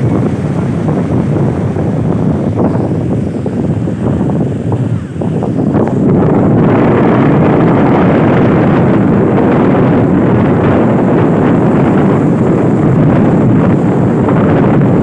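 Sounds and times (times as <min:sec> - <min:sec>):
strong wind on microphone: 0:00.0 - 0:15.0
waves breaking on beach: 0:00.0 - 0:15.0.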